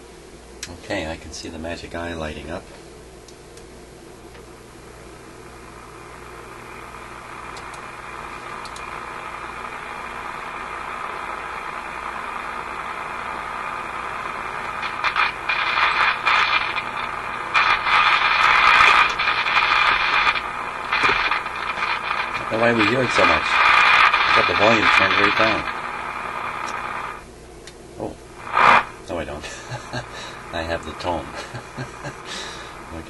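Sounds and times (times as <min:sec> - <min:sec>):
crackling radio static: 0:04.2 - 0:33.0
radio speaker hiss: 0:05.2 - 0:27.3, 0:28.0 - 0:33.0.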